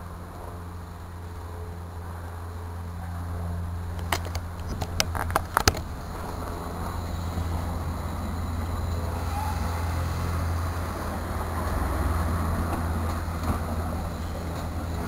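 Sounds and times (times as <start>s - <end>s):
steam locomotive low rumble: 0.0s - 15.0s.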